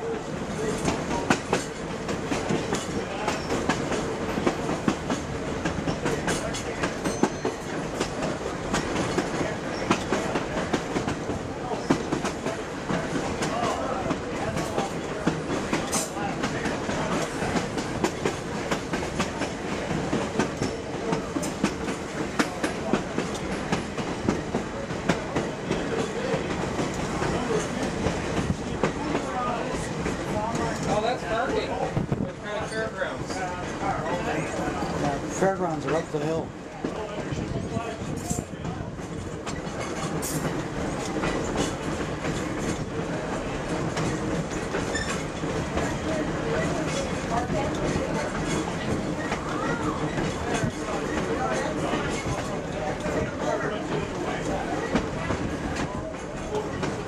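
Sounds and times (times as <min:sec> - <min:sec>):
trolley wheels rumbling on track: 0:00.0 - 0:57.0.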